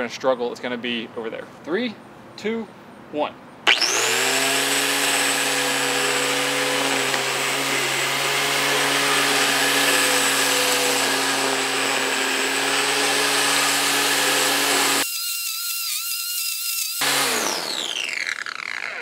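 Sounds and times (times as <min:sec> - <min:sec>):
electric string trimmer whining: 0:03.7 - 0:19.0.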